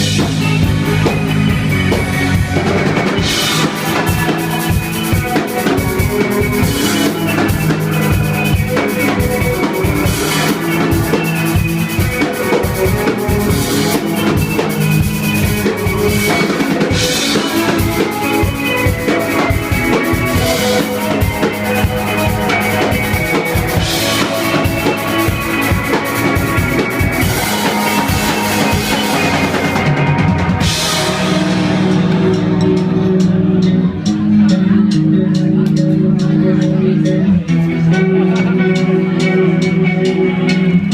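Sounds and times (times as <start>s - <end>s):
band playing: 0.0s - 40.9s.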